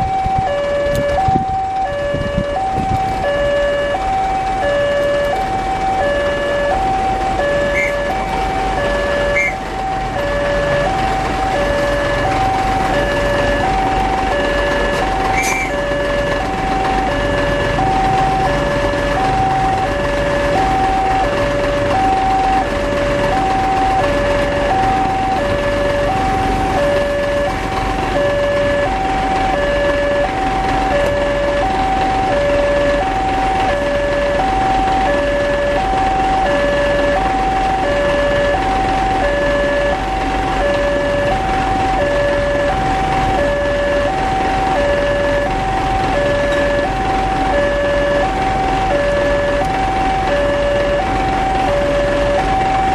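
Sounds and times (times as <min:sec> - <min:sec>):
level crossing two-tone alarm: 0:00.0 - 0:52.9
vehicle engines running: 0:00.0 - 0:52.9.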